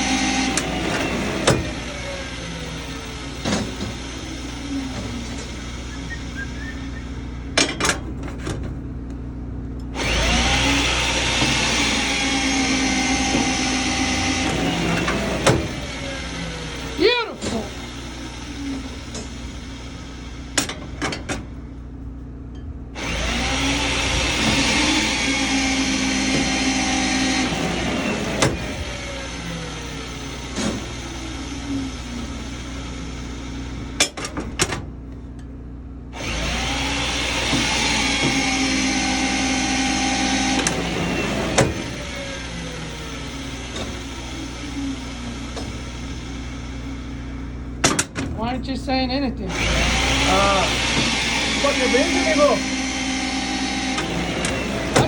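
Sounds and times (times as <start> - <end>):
motor whining: 0.0 - 35.3, 36.1 - 55.0.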